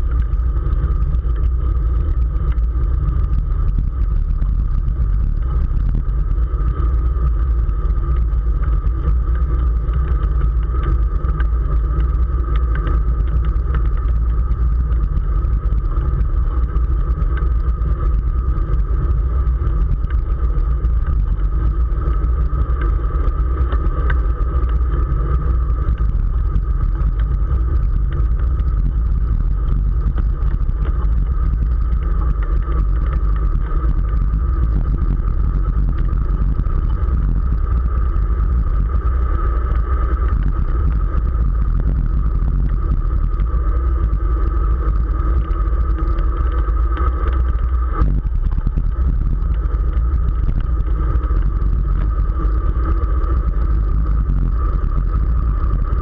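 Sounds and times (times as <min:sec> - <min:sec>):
constant higher hum: 0:00.0 - 0:56.0
wind rumble on microphone: 0:00.0 - 0:56.0.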